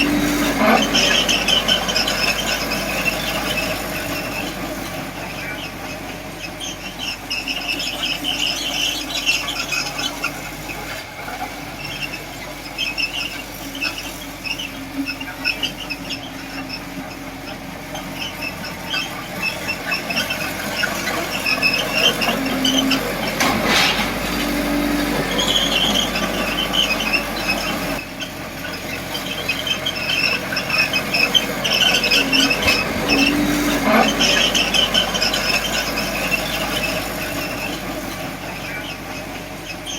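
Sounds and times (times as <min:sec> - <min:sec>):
bulldozer engine running: 0:00.0 - 0:39.9
bulldozer tracks squealing: 0:00.0 - 0:39.9.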